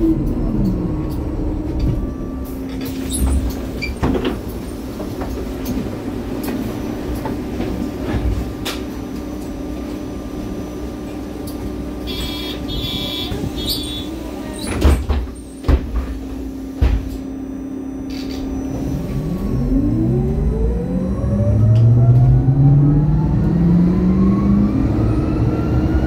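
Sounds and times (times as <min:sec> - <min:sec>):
bus engine hum and rumble: 0:00.0 - 0:26.0.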